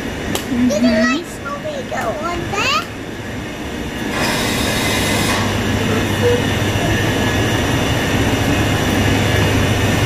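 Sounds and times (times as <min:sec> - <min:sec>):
electric train rumble with low hum: 0:00.0 - 0:10.0.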